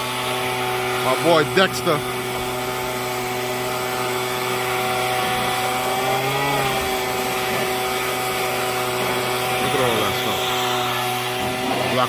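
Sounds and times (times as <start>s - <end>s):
leaf blower running: 0.0s - 12.0s.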